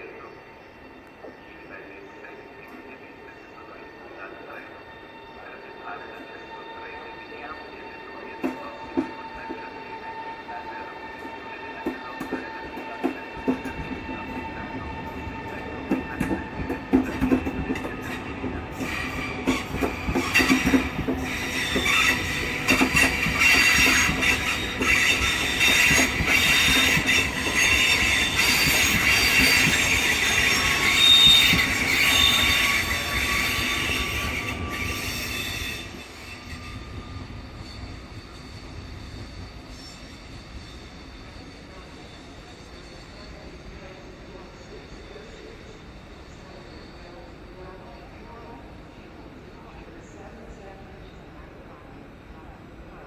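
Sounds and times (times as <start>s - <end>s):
train wheels squealing on track: 0.0s - 50.2s.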